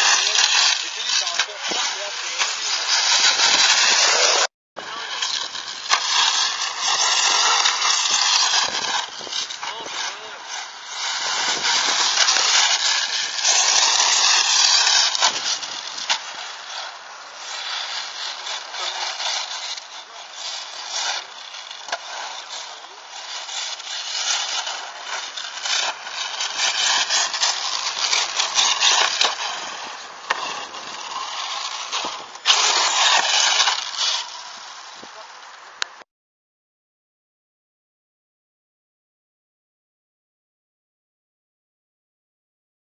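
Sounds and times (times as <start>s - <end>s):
tyres rushing on dirt: 0.0s - 36.0s.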